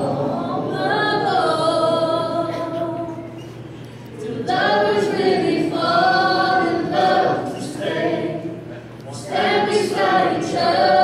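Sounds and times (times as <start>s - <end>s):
young voices singing a cappella: 0.0s - 3.5s, 4.2s - 11.0s.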